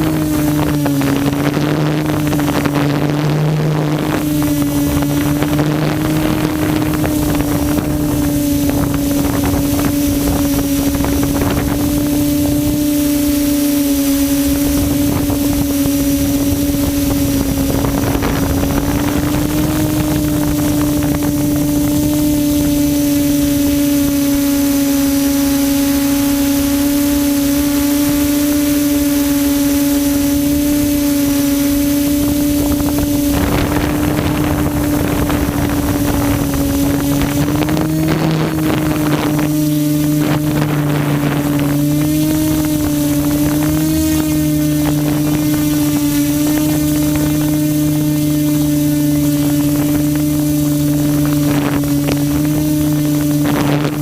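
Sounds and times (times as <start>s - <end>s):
drone motors humming: 0.0s - 54.0s
wind noise on microphone: 0.0s - 54.0s.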